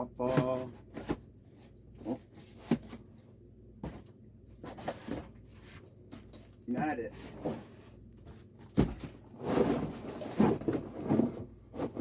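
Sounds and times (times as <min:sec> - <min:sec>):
cardboard rustling and scraping: 0:00.2 - 0:03.2, 0:03.8 - 0:12.0.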